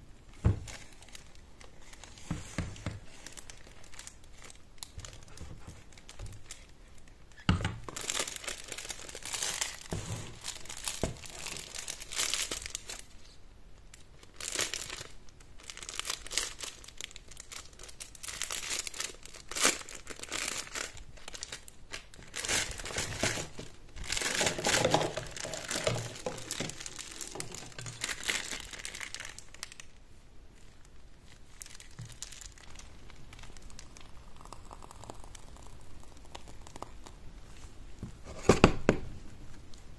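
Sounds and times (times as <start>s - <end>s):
plastic bag crinkling: 0.5s - 6.8s, 7.8s - 13.2s, 13.9s - 30.0s, 30.6s - 36.8s.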